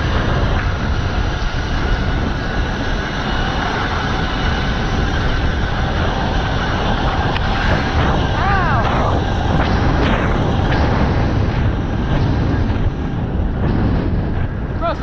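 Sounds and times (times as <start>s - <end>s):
wind rush: 0.0s - 15.0s.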